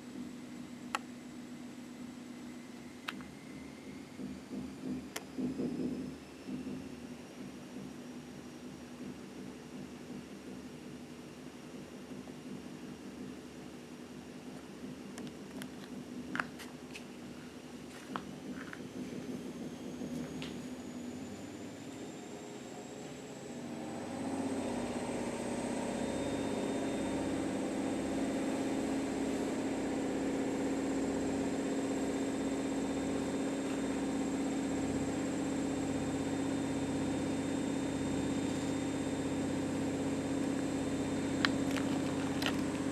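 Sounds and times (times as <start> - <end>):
washing machine motor humming: 0.0 - 42.9.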